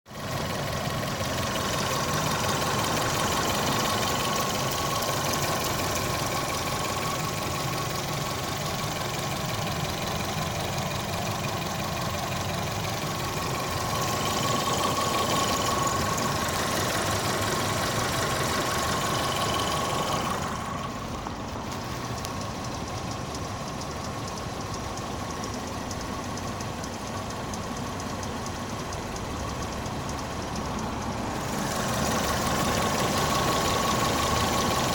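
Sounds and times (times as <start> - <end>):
car engine idling with whine: 0.1 - 34.9.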